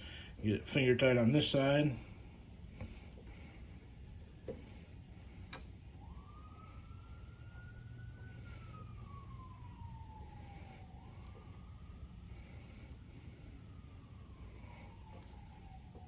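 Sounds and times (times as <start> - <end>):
faint distant siren wailing: 0.0 - 16.0.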